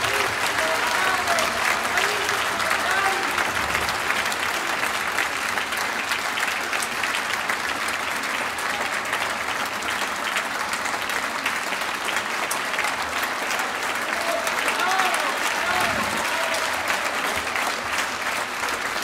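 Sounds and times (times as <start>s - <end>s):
large audience applauding: 0.0s - 19.0s.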